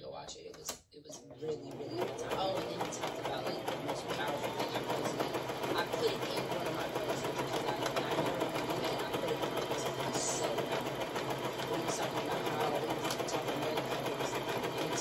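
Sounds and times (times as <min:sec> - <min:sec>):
electric sewing machine running: 0:01.3 - 0:15.0.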